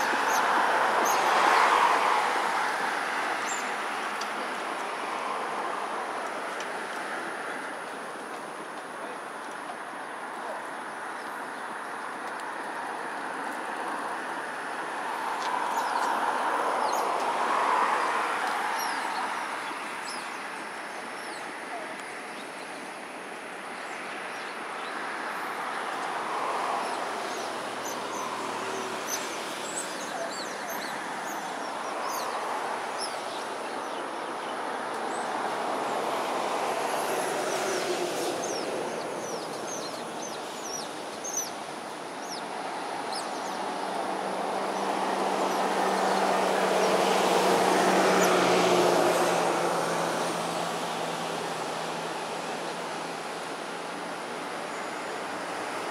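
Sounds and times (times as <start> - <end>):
distant city traffic: 0.0 - 55.9.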